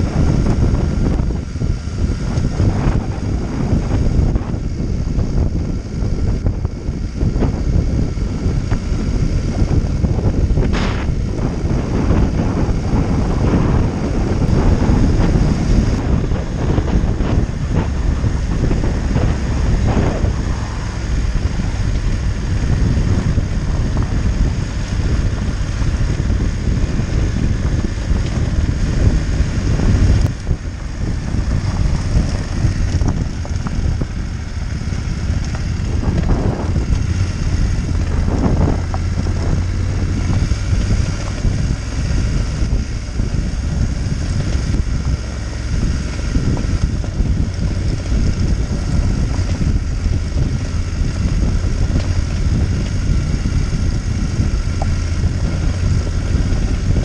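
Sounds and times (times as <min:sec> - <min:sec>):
motorcycle engine running: 0:00.0 - 0:57.0
wind on microphone: 0:00.0 - 0:57.0.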